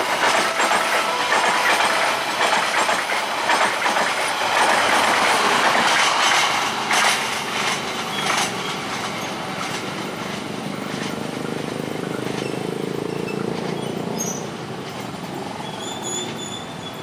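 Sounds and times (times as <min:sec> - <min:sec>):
high wheel squeals: 0:00.0 - 0:14.6, 0:15.4 - 0:17.0
train rumbling: 0:00.0 - 0:17.0
train wheels clacking over joints: 0:00.0 - 0:17.0.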